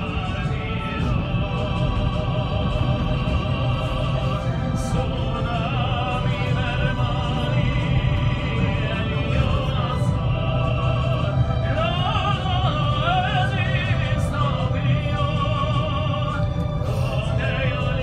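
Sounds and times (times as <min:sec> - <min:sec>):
train carriage rumbling: 0:00.0 - 0:18.0.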